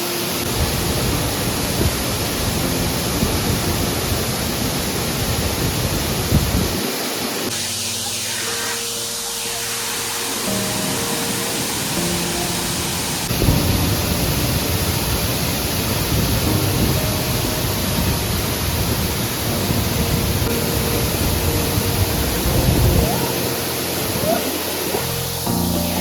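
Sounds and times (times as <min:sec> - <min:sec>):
waterfall pouring: 0:00.0 - 0:26.0.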